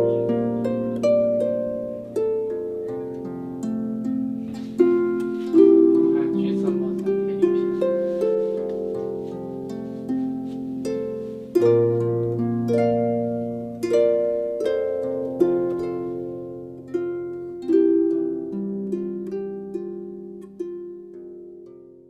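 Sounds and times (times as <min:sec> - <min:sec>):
slow plucked string melody: 0:00.0 - 0:22.0.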